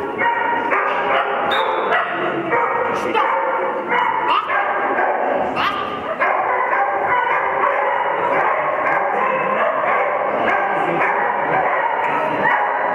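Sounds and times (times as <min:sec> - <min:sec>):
continuous din in a hall: 0:00.0 - 0:12.9
dog barking: 0:00.0 - 0:12.9.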